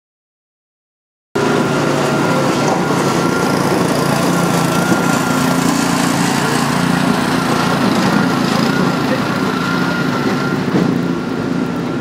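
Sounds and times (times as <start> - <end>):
small petrol engine running: 1.4 - 12.0.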